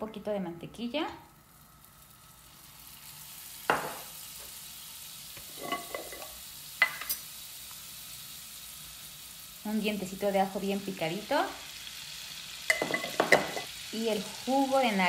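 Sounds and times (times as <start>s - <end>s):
butter sizzling in a frying pan: 0.2s - 15.0s.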